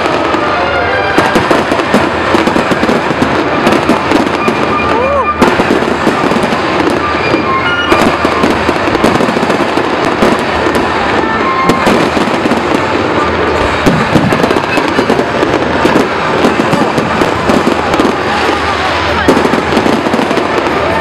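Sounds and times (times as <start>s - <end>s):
fireworks cracking and banging: 0.0s - 21.0s.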